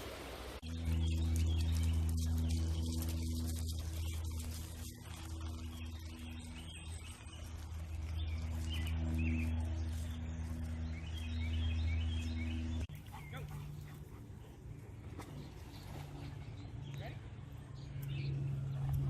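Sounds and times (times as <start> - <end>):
low hum: 0.0 - 19.0
outdoor noise: 0.0 - 19.0
small birds chirping: 0.6 - 19.0.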